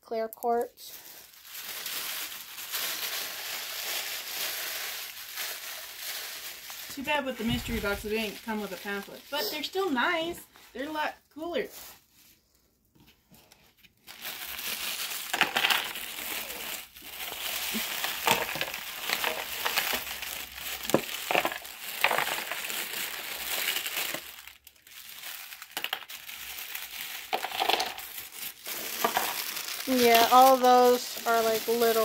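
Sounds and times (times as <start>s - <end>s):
plastic bag crumpling and rustling: 0.5s - 12.4s, 13.4s - 32.0s.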